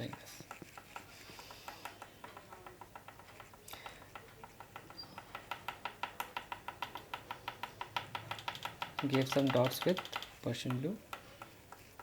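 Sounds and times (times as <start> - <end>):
oil pastel tapping on paper: 0.0 - 12.0.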